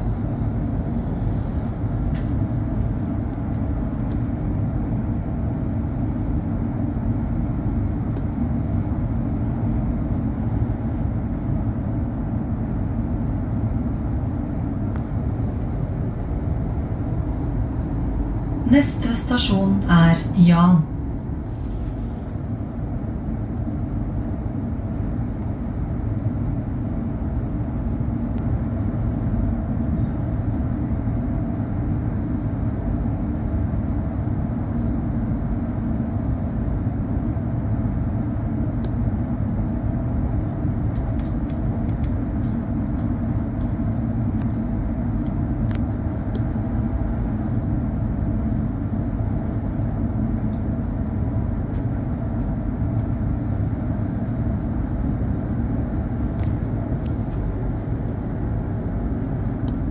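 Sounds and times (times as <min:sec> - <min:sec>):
faint electric hum: 0:00.0 - 0:59.9
train running gear rumble: 0:00.0 - 0:59.9.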